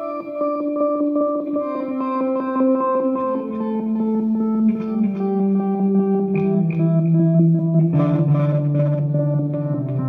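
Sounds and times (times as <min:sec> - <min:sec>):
electric guitar with pulsing effect: 0:00.0 - 0:10.0.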